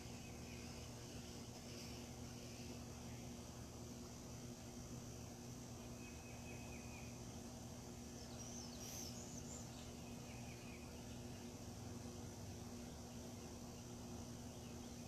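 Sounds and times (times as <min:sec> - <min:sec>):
birdsong: 0:00.0 - 0:15.0
steady low hum: 0:00.0 - 0:15.0.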